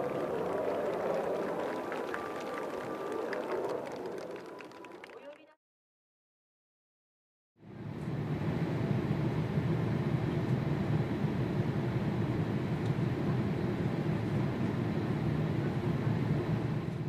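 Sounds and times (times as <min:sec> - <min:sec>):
jet airliner cabin roar: 0:00.0 - 0:04.9, 0:07.7 - 0:17.0.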